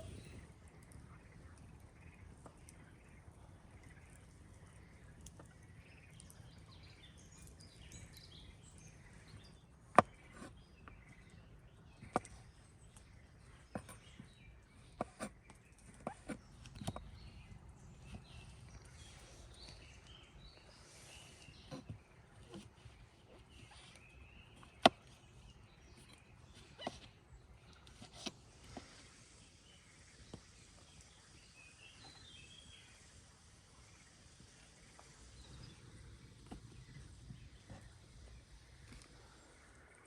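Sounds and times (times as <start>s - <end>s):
faint bird calls: 0.0s - 33.2s.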